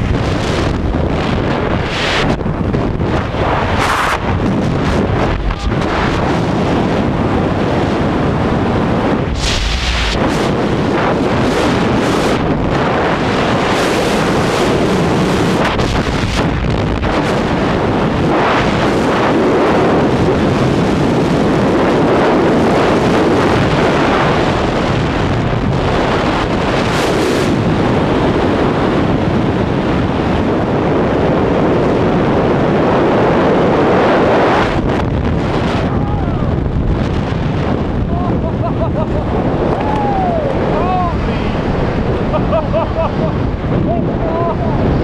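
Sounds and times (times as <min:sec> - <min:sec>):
wind buffeting microphone: 0:00.0 - 0:45.0
wind rushing during freefall: 0:00.0 - 0:45.0.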